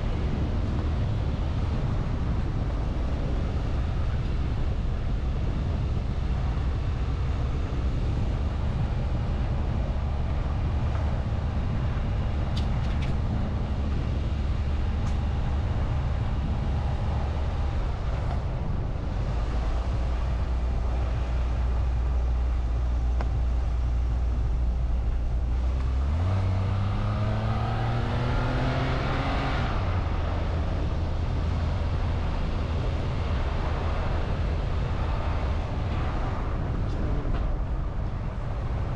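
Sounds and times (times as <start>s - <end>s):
car engine accelerating: 0.0s - 38.9s
road noise inside car: 0.0s - 38.9s.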